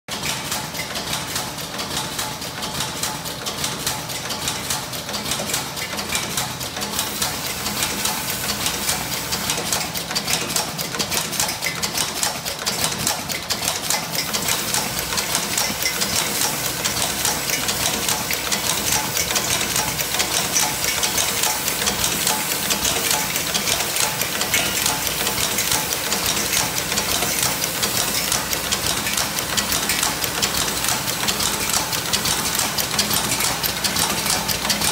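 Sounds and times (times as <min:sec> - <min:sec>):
machine clattering: 0:00.1 - 0:34.9.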